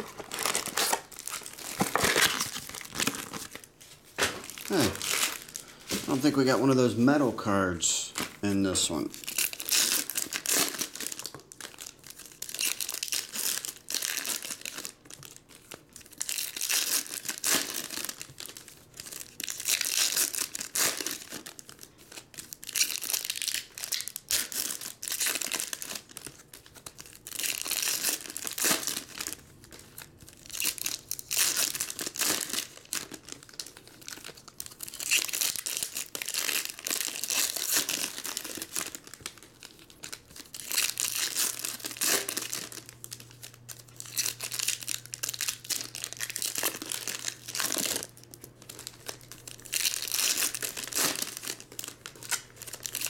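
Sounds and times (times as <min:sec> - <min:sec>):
foil wrappers tearing and crinkling: 0:00.0 - 0:06.8, 0:08.0 - 0:53.0.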